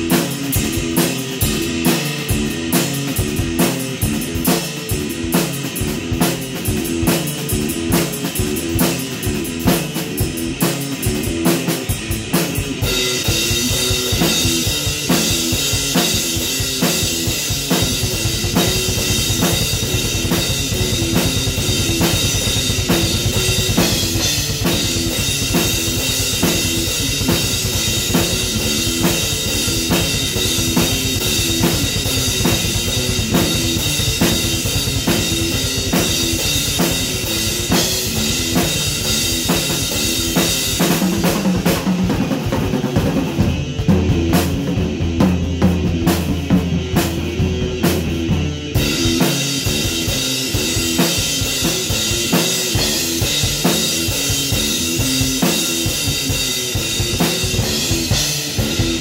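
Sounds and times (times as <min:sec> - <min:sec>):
electric guitar riff: 0:00.0 - 0:41.3, 0:45.8 - 0:59.0
rock drum beat: 0:00.0 - 0:59.0.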